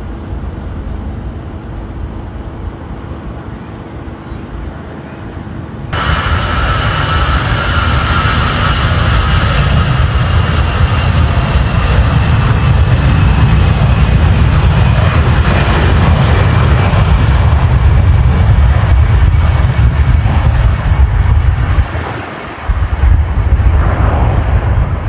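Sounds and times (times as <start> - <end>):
jet airliner engines rumbling: 0.0 - 25.0.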